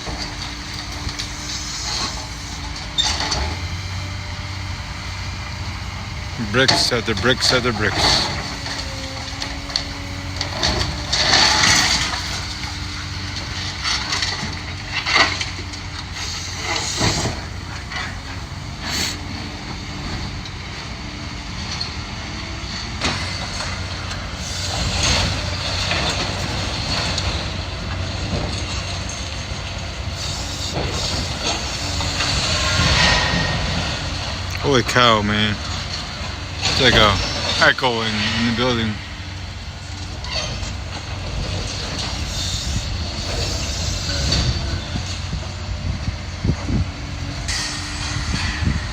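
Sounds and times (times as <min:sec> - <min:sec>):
demolition machinery running: 0:00.0 - 0:48.9.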